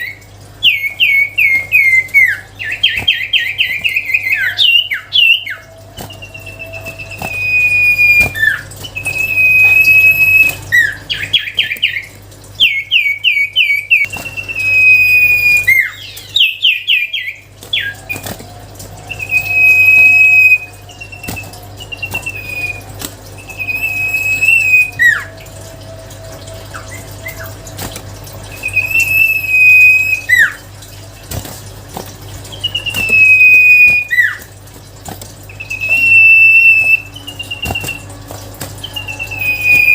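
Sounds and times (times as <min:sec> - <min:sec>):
bird whistling clear notes: 0:00.0 - 0:18.3, 0:19.1 - 0:25.4, 0:28.5 - 0:30.6, 0:32.6 - 0:34.5, 0:35.5 - 0:38.2, 0:38.8 - 0:39.9
rapid bird notes: 0:00.0 - 0:18.4, 0:19.1 - 0:34.6, 0:35.3 - 0:39.9.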